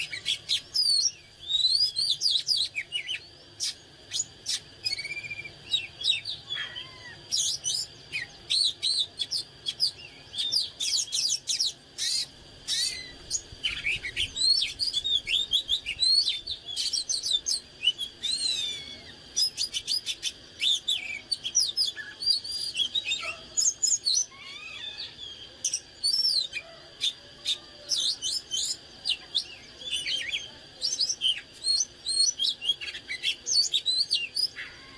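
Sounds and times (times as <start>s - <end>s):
bird singing whistled notes: 0.0s - 34.9s.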